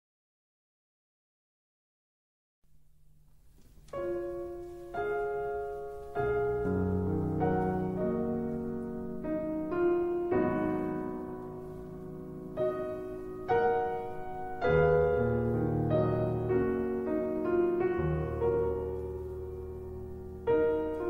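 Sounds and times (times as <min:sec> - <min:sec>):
piano chords: 0:03.1 - 0:21.0.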